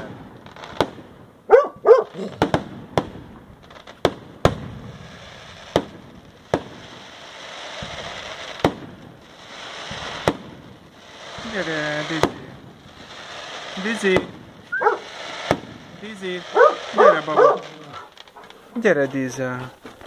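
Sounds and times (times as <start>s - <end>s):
fireworks bangs: 0.0s - 20.0s
fireworks crackling hiss: 0.0s - 20.0s.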